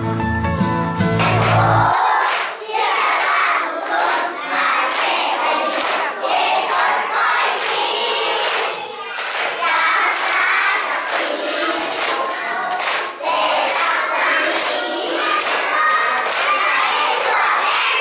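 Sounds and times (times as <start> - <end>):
hands clapping: 1.0 - 18.0
children singing in unison: 1.3 - 18.0.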